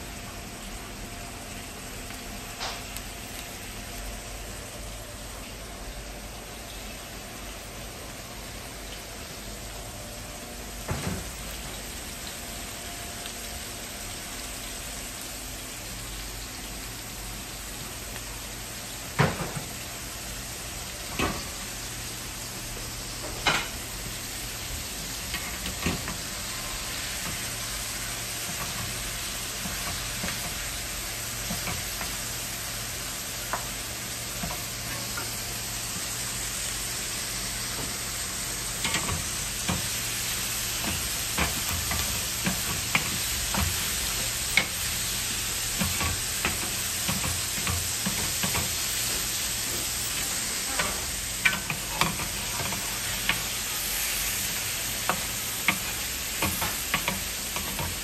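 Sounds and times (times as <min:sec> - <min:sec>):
meat sizzling in a pan: 0:00.0 - 0:58.0.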